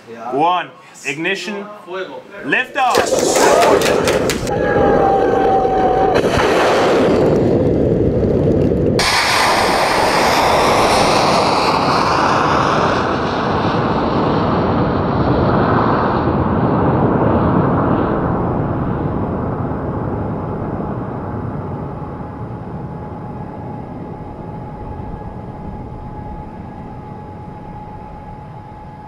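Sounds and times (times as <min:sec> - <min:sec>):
rocket motor roaring: 0:02.9 - 0:29.0.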